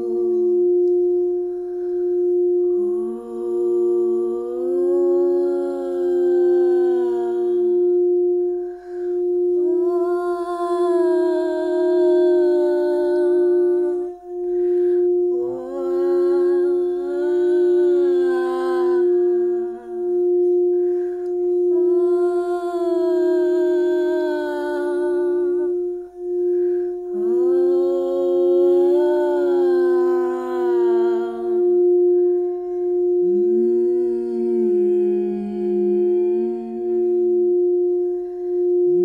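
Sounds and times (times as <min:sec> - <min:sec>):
person humming: 0:00.0 - 0:39.0
singing bowl sustained note: 0:00.0 - 0:39.0.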